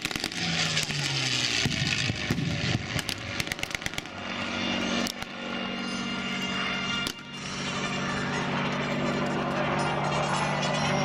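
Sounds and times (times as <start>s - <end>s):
propeller plane engine passing: 0.0s - 11.0s.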